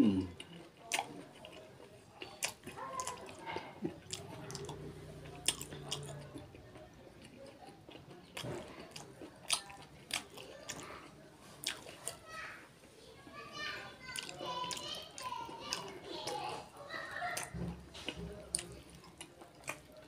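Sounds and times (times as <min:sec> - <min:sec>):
mouth chewing with wet smacks: 0:00.2 - 0:11.0, 0:11.6 - 0:12.2, 0:14.1 - 0:16.4, 0:17.0 - 0:20.0.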